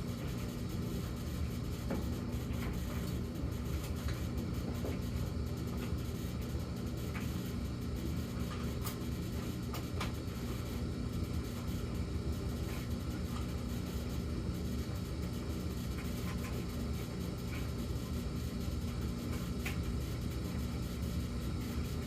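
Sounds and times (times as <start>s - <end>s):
dryer humming: 0.0s - 22.0s.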